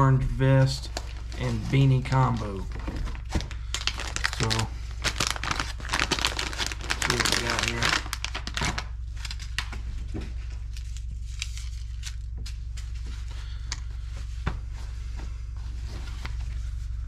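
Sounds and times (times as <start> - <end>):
steady low hum: 0.0 - 17.0
fabric and plastic rustling: 0.6 - 17.0.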